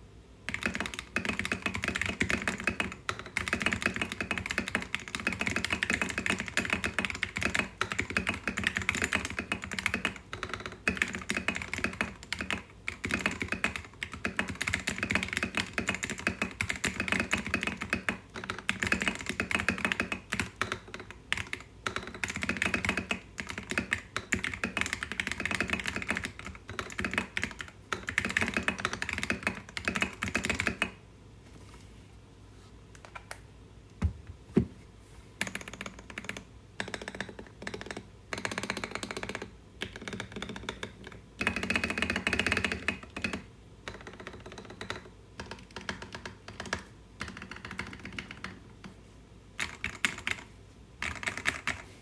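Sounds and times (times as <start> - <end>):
mechanical keyboard typing: 0.5 - 31.0, 35.4 - 48.6, 49.6 - 51.8.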